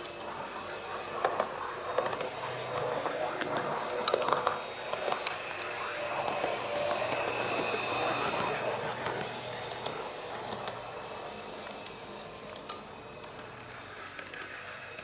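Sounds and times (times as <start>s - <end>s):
model train motor singing: 0.0s - 15.0s
model train wheels on rails: 0.0s - 15.0s.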